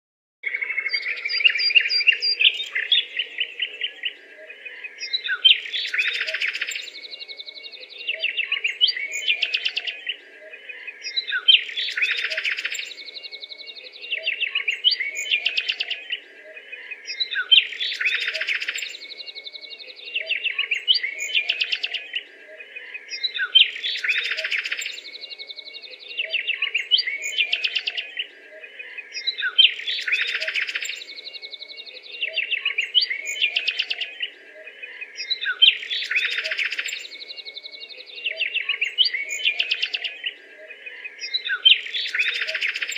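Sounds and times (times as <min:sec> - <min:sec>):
bird trills and chirps: 0:00.4 - 0:42.9.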